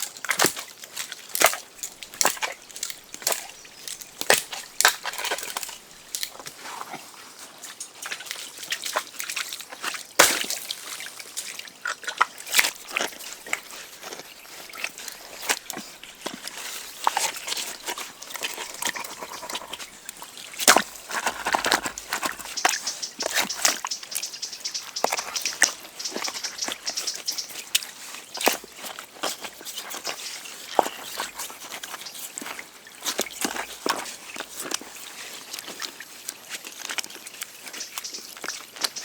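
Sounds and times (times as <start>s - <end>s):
faint sloshing water: 0.0s - 39.0s.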